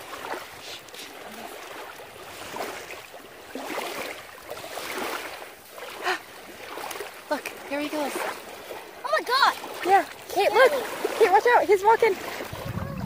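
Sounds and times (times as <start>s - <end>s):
small waves washing on sand: 0.0s - 13.0s.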